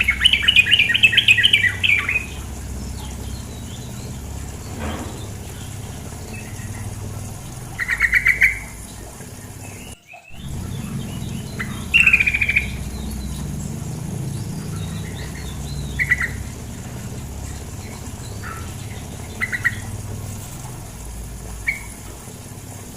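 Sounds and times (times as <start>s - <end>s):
bulbul chattering calls: 0.0s - 22.2s
flowing water: 0.0s - 22.9s.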